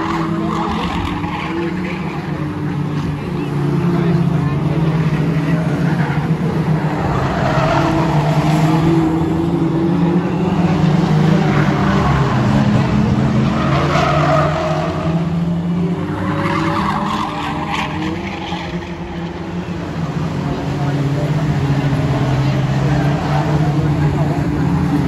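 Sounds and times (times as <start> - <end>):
race car engines droning: 0.0 - 25.0.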